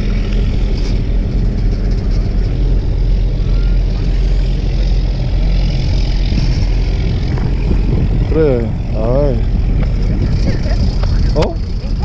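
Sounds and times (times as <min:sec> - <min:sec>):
boat engine humming: 0:00.0 - 0:12.0
sea noise: 0:00.0 - 0:12.0
wind: 0:00.0 - 0:12.0.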